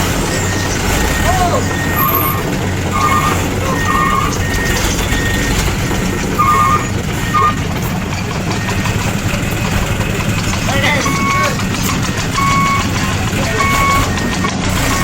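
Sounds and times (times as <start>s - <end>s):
back-up alarm beeps: 0.0s - 15.0s
heavy machinery engines rumbling: 0.0s - 15.0s.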